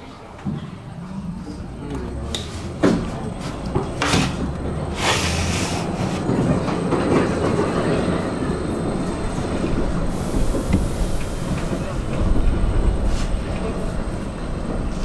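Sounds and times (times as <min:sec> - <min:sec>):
tram wheels rumbling on track: 0:00.0 - 0:15.0.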